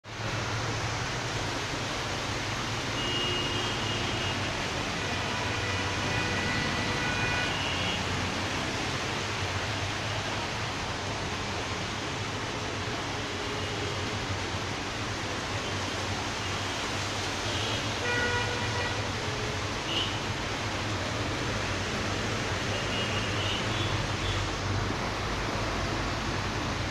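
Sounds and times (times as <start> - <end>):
rain falling: 0.0 - 26.9.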